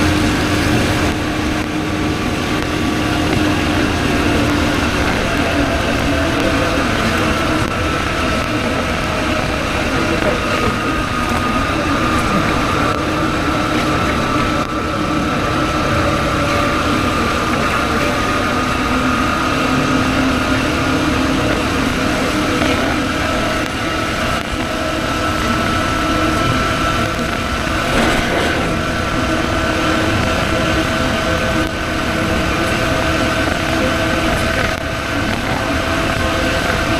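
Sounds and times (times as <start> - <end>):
motorcycle engine running: 0.0 - 36.9
wind and road noise: 0.0 - 36.9.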